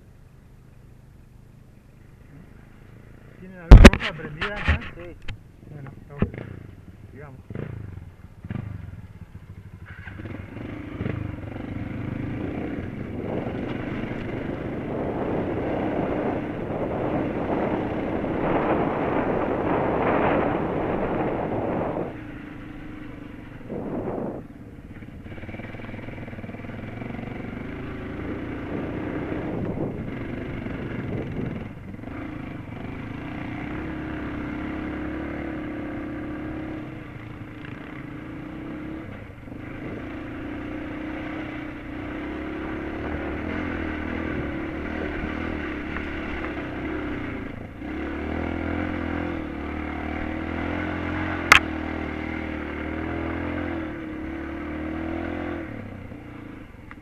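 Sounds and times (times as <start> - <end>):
motorcycle engine revving: 2.2 - 57.0.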